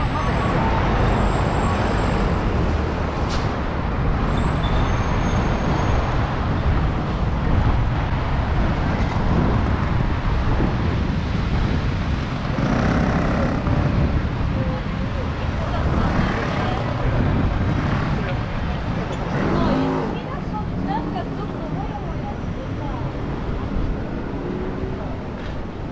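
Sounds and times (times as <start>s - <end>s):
road traffic noise: 0.0s - 25.9s.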